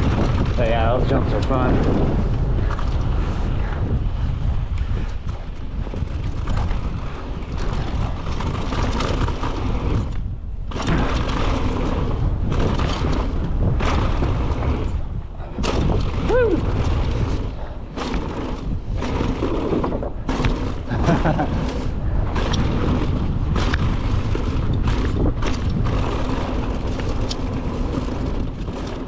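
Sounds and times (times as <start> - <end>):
mountain bike rattling: 0.0 - 29.0
wind buffeting microphone: 0.0 - 29.0.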